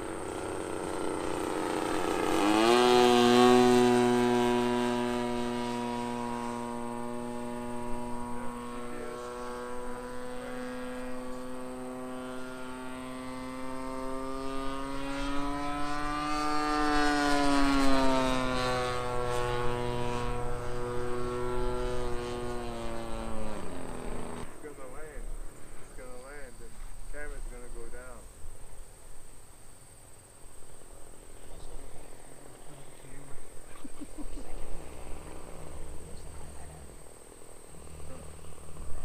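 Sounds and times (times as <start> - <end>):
model airplane engine buzzing: 0.0 - 39.0.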